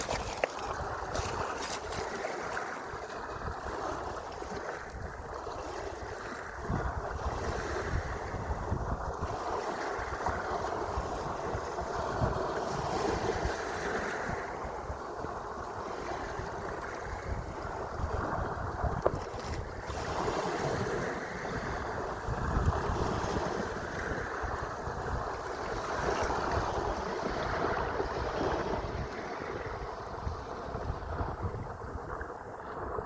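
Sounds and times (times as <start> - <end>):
sea waves washing: 0.0 - 33.0
wind buffeting microphone: 0.0 - 33.0.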